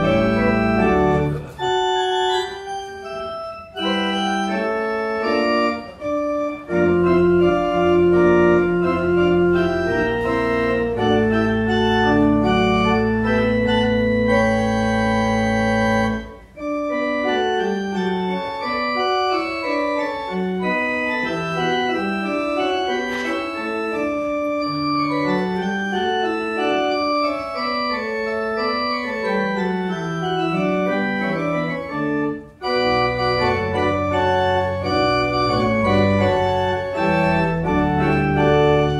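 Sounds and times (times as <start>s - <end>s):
organ music: 0.0s - 38.9s.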